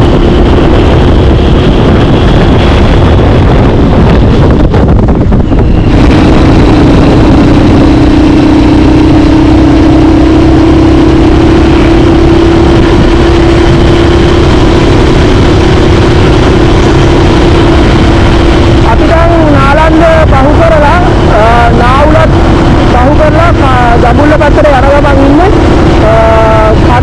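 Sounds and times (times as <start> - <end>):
engine drone: 0.0 - 27.0
road and wind noise: 0.0 - 27.0.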